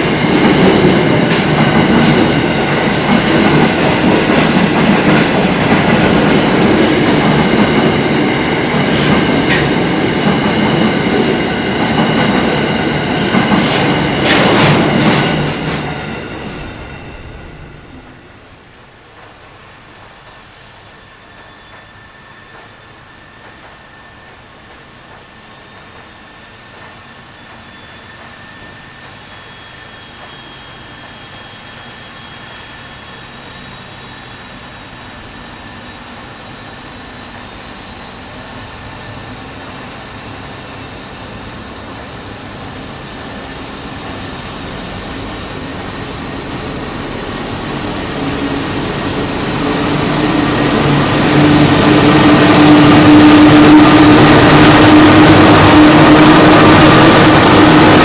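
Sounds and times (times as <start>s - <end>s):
wheels squealing on rails: 0.0s - 58.0s.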